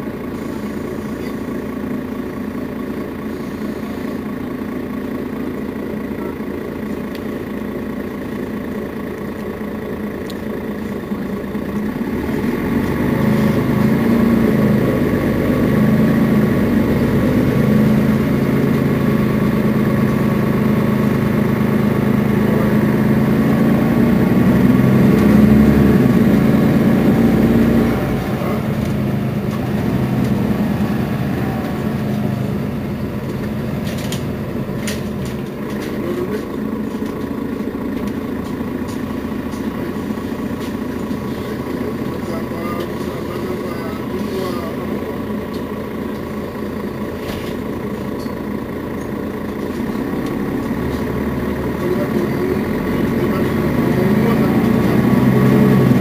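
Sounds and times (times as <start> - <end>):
bus engine idling: 0.0 - 56.0.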